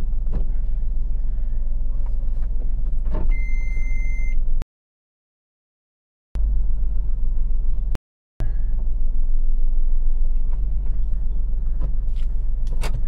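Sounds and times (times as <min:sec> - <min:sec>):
car engine low rumble: 0:00.0 - 0:04.6, 0:06.4 - 0:13.0.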